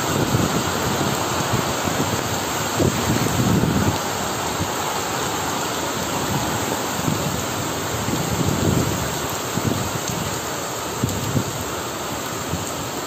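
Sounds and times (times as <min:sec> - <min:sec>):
heavy rain pouring: 0:00.0 - 0:13.0
wind gusts on microphone: 0:00.0 - 0:13.0.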